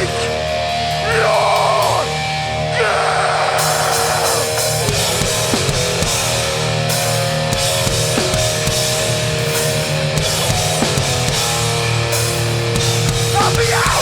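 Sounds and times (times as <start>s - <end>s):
hardcore punk band playing: 0.0s - 14.0s.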